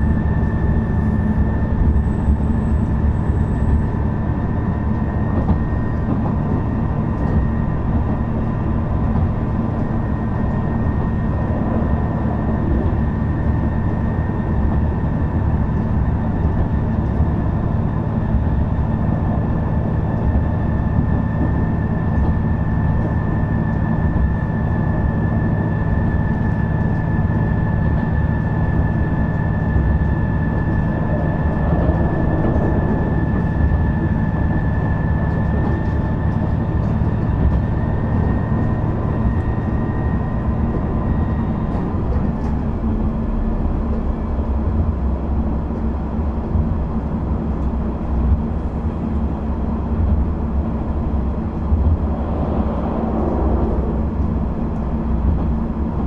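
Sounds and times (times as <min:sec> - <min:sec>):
railcar engine drone: 0:00.0 - 0:56.0
wheels on rail: 0:00.0 - 0:56.0.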